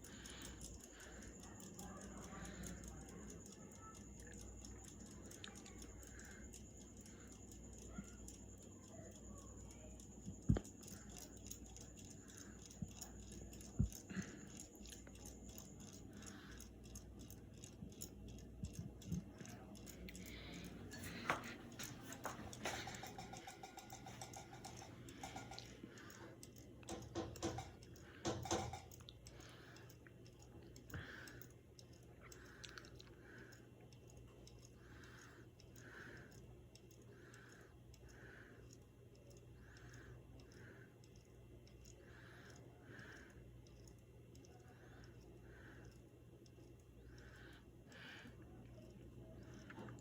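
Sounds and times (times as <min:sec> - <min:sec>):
ceiling fan hum: 0:00.0 - 0:50.0
fan clicking and ticking: 0:00.0 - 0:50.0.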